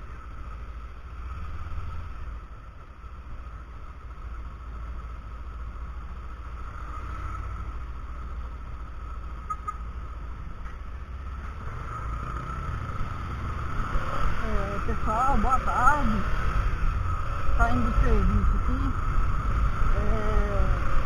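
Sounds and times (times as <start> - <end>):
motorcycle engine rumbling: 0.0 - 21.0
thin steady whine: 0.0 - 21.0.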